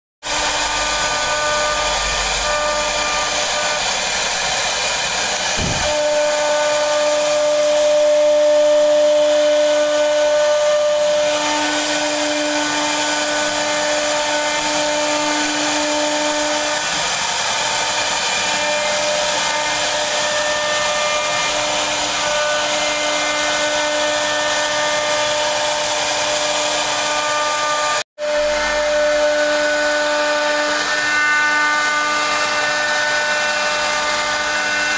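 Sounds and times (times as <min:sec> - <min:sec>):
router spindle whining: 0:00.3 - 0:34.9.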